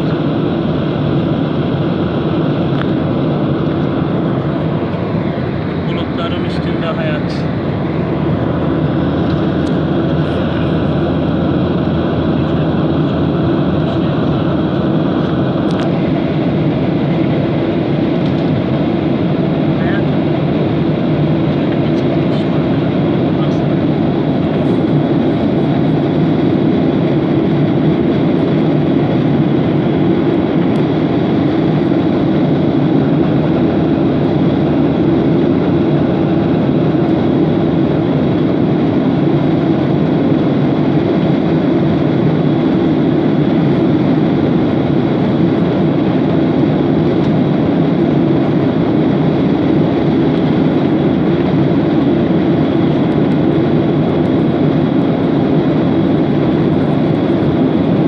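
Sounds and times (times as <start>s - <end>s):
airliner engine and airflow rush: 0.0s - 58.0s.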